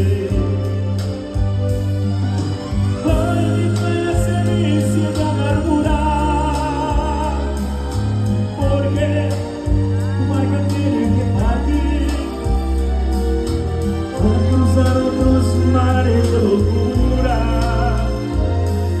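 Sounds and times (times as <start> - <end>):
live band with deep bass: 0.0 - 19.0.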